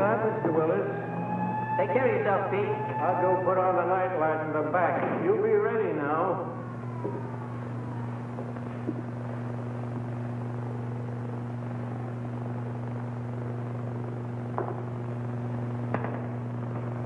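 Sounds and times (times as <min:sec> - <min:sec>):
film soundtrack hum and hiss: 0:00.0 - 0:17.0.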